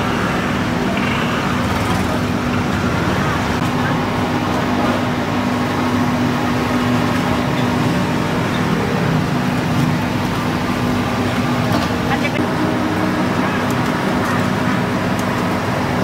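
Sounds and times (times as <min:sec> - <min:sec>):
gas wok burner roaring: 0:00.0 - 0:16.0.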